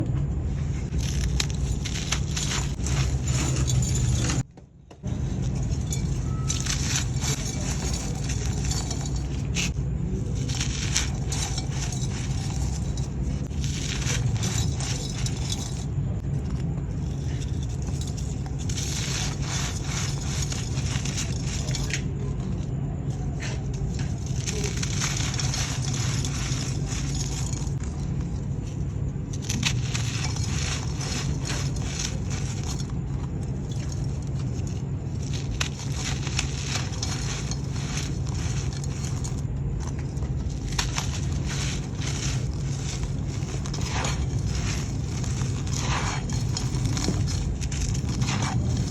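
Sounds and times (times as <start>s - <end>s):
steady low hum: 0.0s - 48.9s
clay pieces crumbling: 0.7s - 48.9s.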